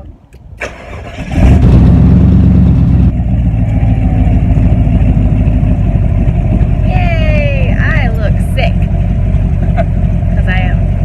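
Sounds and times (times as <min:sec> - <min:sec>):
car engine starting and idling: 0:00.3 - 0:11.0.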